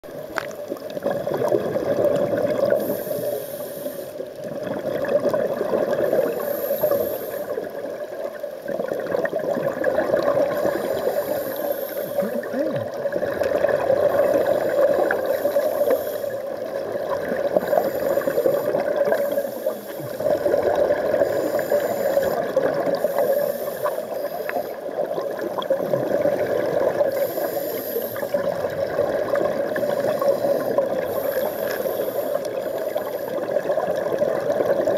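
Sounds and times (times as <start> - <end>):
diver regulator bubbling: 0.0 - 34.9
steady underwater noise: 0.0 - 34.9.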